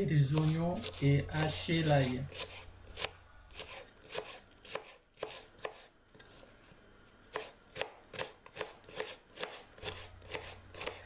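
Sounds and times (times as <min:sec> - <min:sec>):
knife slicing onion on cutting board: 0:00.0 - 0:06.0, 0:07.3 - 0:11.0.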